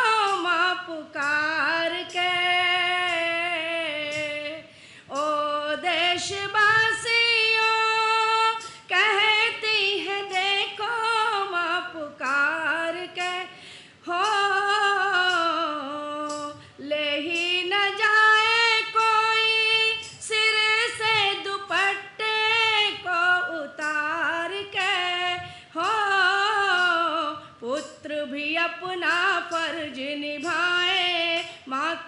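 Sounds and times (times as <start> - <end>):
woman singing into a microphone: 0.0 - 32.0.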